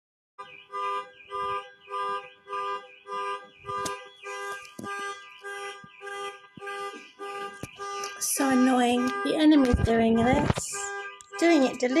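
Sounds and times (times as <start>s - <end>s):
car alarm pulsing tone: 0.4s - 12.0s.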